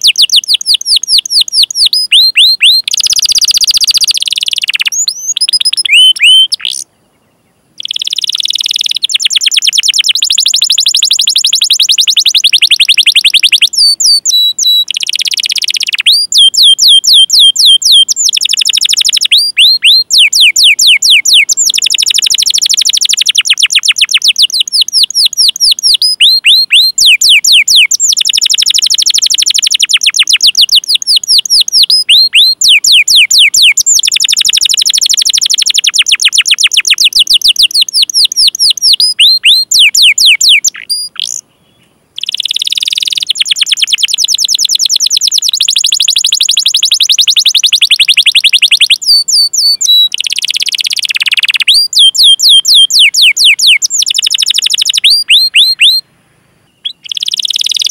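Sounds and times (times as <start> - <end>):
canary singing: 0.0 - 56.0, 56.7 - 57.9.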